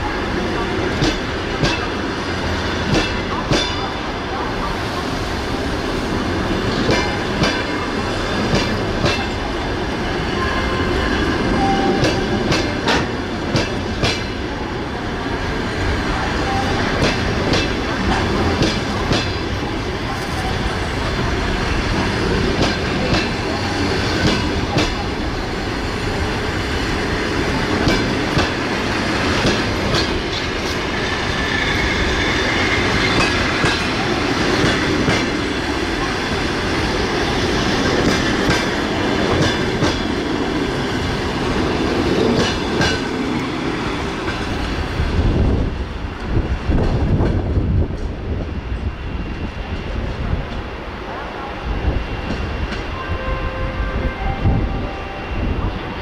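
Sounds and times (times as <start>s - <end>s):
train coaches rumbling past: 0.0s - 56.0s.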